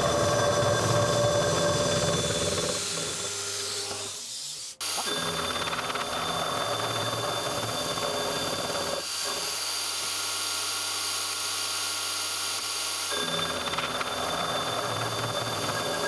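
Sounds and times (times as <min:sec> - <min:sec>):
milling machine whine: 0:00.0 - 0:16.0.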